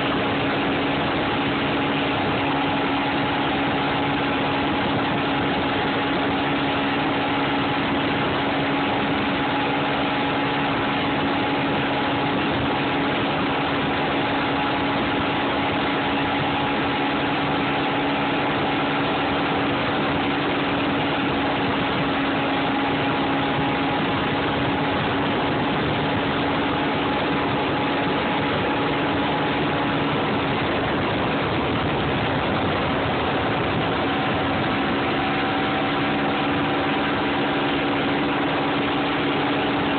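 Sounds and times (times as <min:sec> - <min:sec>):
outboard motor running: 0:00.0 - 0:39.9
wind and wake water rushing: 0:00.0 - 0:39.9.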